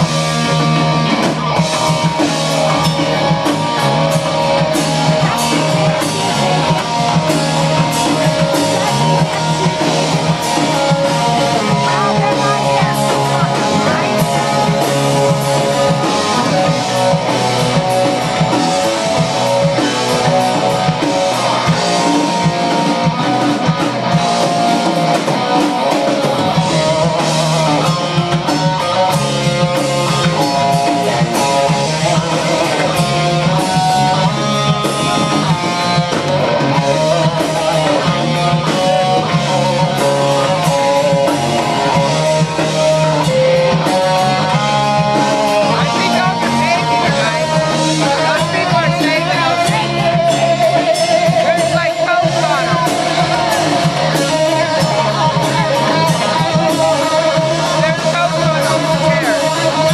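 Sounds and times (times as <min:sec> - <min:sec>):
electric guitar lead: 0:00.0 - 0:59.9
hard rock band playing: 0:00.0 - 0:59.9.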